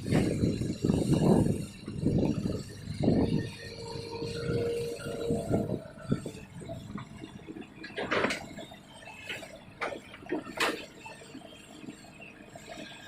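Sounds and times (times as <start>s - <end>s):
steady whine: 0.0s - 13.0s.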